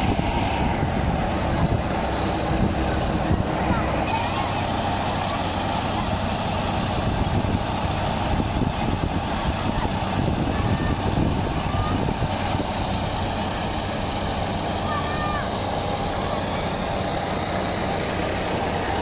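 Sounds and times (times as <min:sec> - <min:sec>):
threshing drum running: 0:00.0 - 0:19.0
tractor diesel engine: 0:00.0 - 0:19.0.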